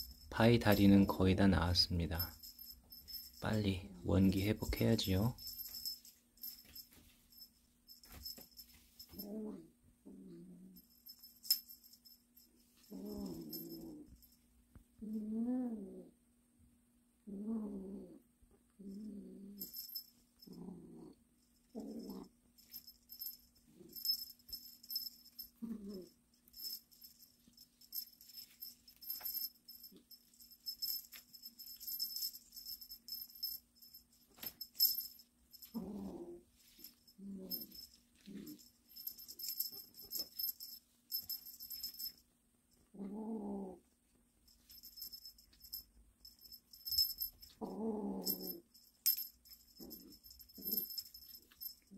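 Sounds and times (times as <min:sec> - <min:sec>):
high jingling: 0:00.0 - 0:09.4, 0:10.8 - 0:14.4, 0:19.6 - 0:20.9, 0:21.5 - 0:42.3, 0:44.5 - 0:51.9.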